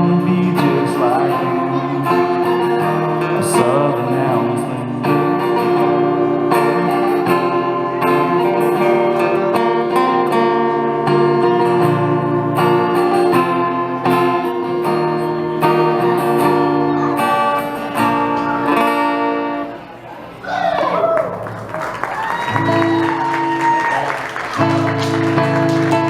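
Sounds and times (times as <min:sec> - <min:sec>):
acoustic guitar strumming: 0:00.0 - 0:19.8, 0:22.5 - 0:23.8, 0:24.6 - 0:26.0.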